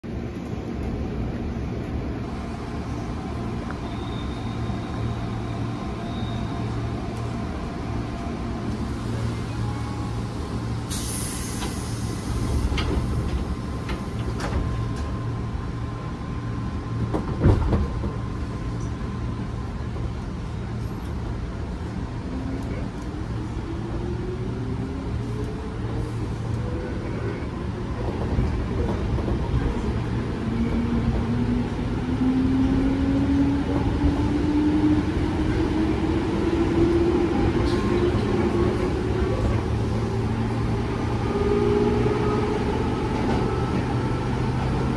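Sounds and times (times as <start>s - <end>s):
train running rumble: 7.0s - 44.9s.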